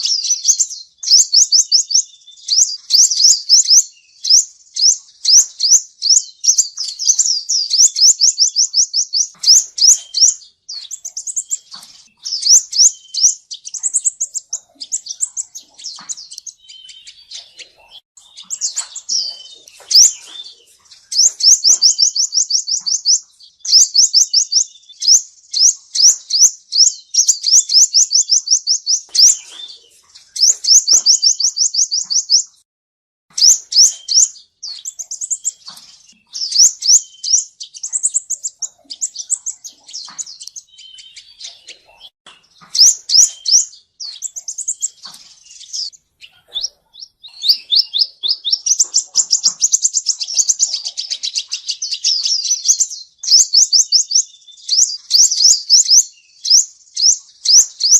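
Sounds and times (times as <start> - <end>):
bird singing high trills: 0.0 - 32.6, 33.3 - 57.9.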